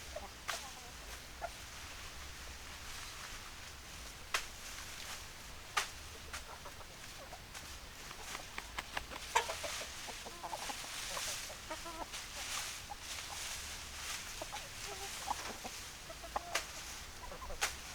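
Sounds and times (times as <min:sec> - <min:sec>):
hens clucking: 0:00.0 - 0:04.2, 0:05.4 - 0:17.9.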